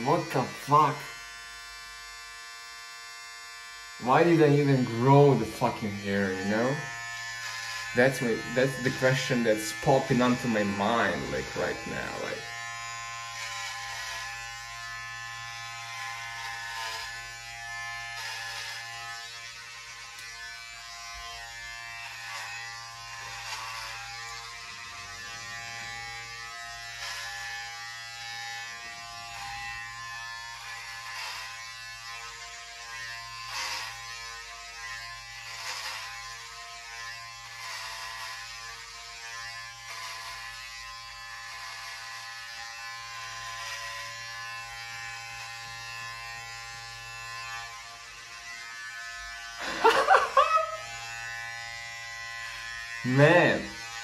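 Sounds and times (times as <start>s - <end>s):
electric hair clippers buzzing: 0.0s - 54.0s.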